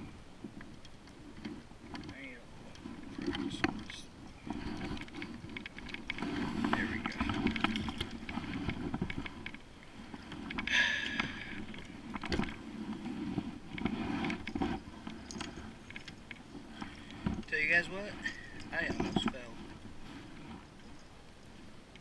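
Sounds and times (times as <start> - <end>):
hull knocks and creaks: 0.0 - 21.2
water sloshing against kayak: 0.2 - 22.0.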